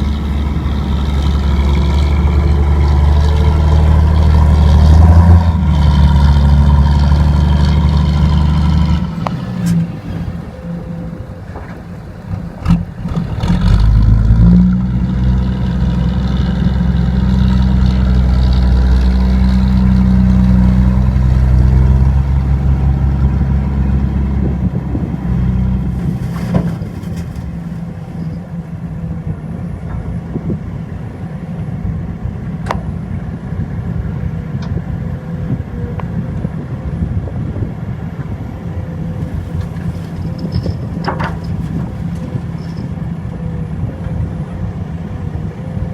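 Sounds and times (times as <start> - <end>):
heavy diesel engine working: 0.0 - 45.9.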